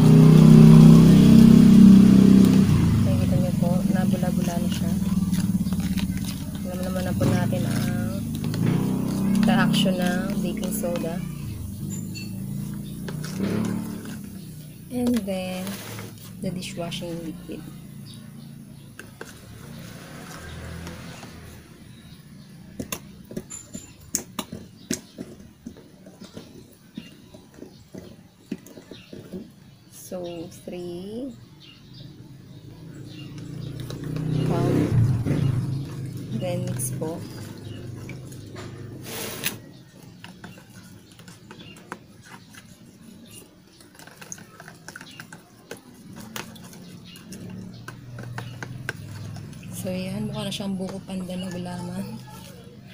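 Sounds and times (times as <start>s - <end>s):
stick stirring liquid in tub: 0.0s - 31.0s, 33.2s - 52.9s.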